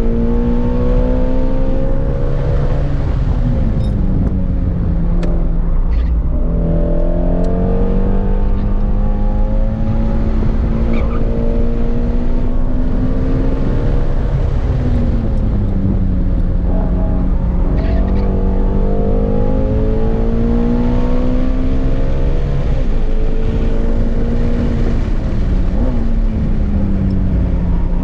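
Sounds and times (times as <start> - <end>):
car engine under hard driving: 0.0 - 28.0.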